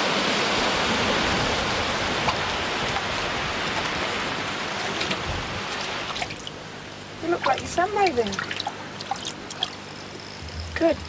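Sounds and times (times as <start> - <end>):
seawater washing over rocks: 0.0 - 9.8
small water splashes: 0.9 - 10.0.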